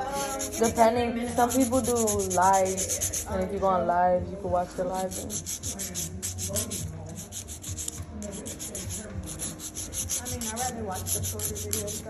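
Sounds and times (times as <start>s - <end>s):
nail file scraping: 0.0s - 0.8s, 1.4s - 3.5s, 5.0s - 12.0s.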